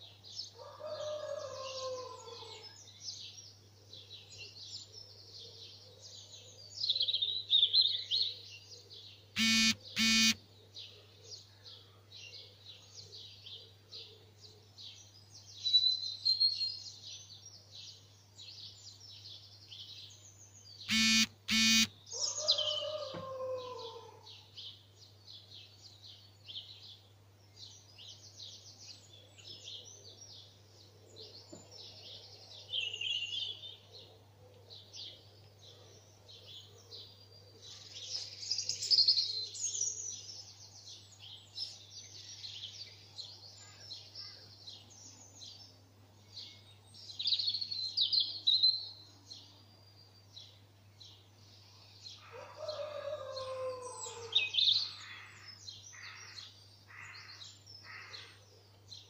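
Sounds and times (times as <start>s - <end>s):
songbirds singing and chirping: 0.0s - 59.0s.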